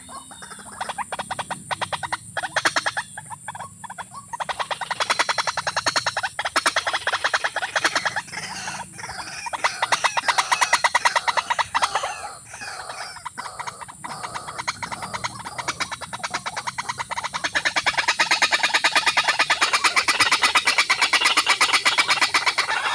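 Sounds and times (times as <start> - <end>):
bird calling repeated notes: 0.0 - 22.9.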